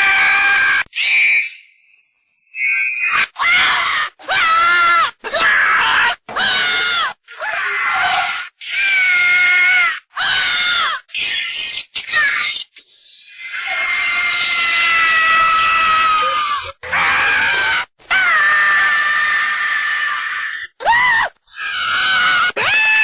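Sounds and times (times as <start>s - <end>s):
cartoon character screaming: 0.0s - 1.6s, 2.6s - 12.7s, 13.3s - 23.0s.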